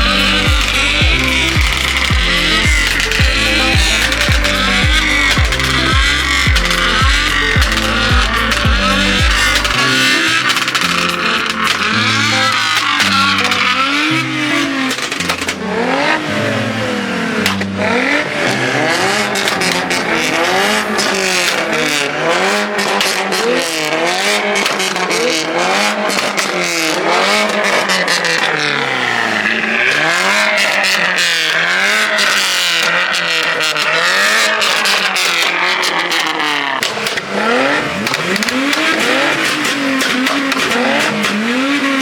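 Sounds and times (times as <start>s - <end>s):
car engine revving: 0.0s - 42.0s
sharp exhaust cracks and pops: 0.0s - 42.0s.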